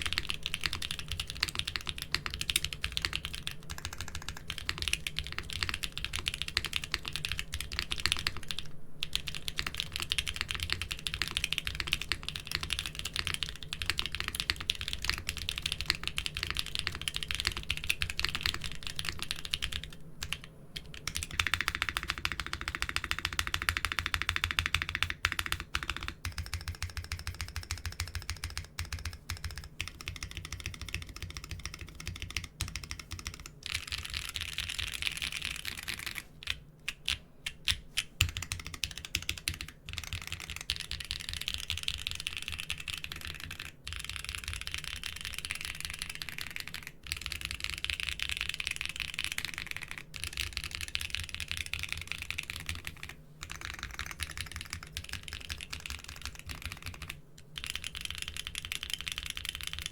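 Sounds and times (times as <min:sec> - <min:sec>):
fast typing on mechanical keyboard: 0:00.0 - 0:59.9.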